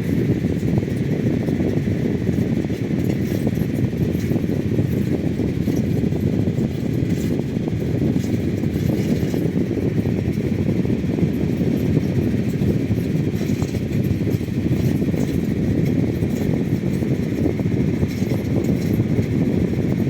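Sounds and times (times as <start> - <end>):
fan running with rumble: 0.0 - 20.0.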